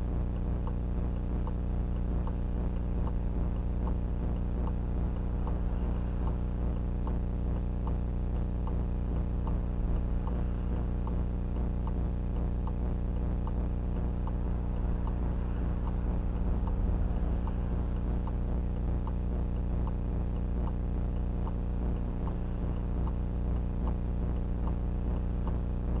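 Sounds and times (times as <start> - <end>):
loud electrical hum: 0.0 - 26.0
regular ticks: 0.0 - 26.0.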